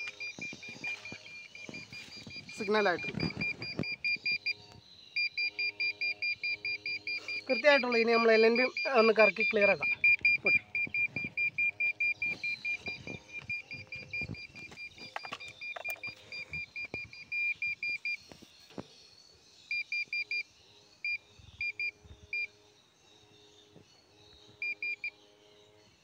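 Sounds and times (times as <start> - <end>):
satellite finder meter beeping: 0.0 - 19.0, 19.7 - 22.6, 24.3 - 25.2.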